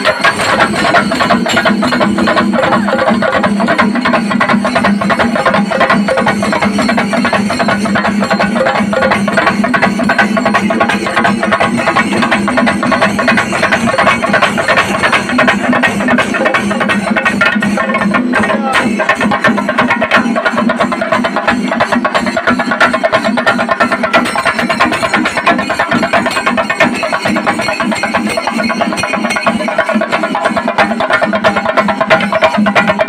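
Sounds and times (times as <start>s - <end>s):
drums beaten fast with sticks: 0.0s - 33.0s
hand cymbals clashing: 0.0s - 33.0s.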